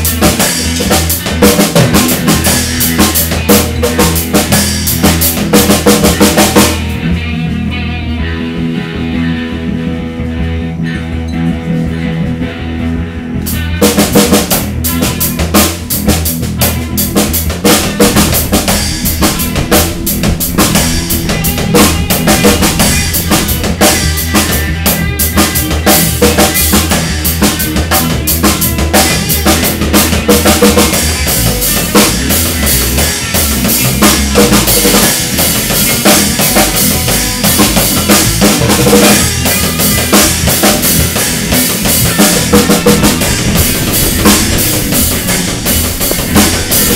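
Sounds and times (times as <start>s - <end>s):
drum kit playing: 0.0s - 7.8s, 13.4s - 46.9s
electric bass: 0.0s - 46.9s
electric guitar: 0.0s - 46.9s.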